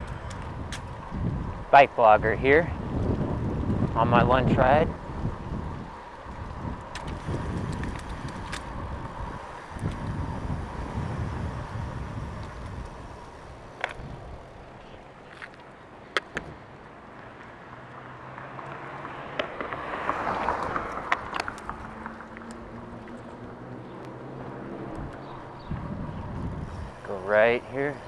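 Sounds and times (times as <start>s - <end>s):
wind rumbling on microphone: 0.0s - 17.0s, 19.4s - 28.0s
bicycle rolling: 0.0s - 28.0s.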